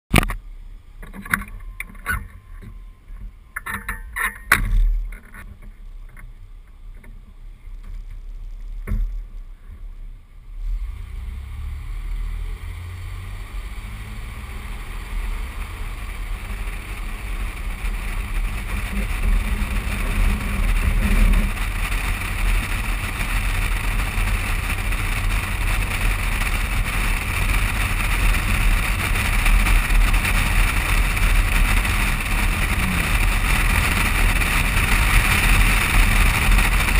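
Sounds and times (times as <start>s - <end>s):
wind and tyre noise: 0.1s - 36.9s.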